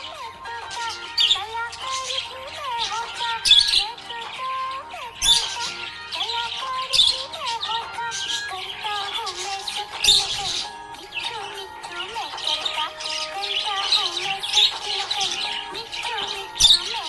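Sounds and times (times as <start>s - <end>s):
budgerigar chirping and chattering: 0.0s - 17.0s.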